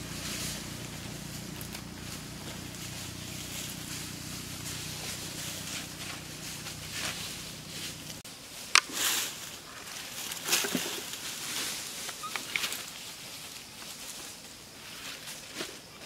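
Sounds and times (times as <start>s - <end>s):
rustling in dry leaves: 0.0s - 16.0s.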